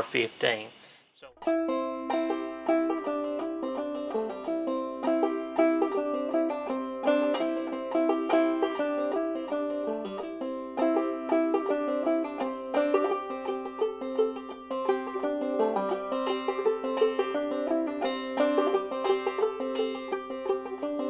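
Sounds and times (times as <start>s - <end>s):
plucked string instrument music: 1.4s - 21.0s.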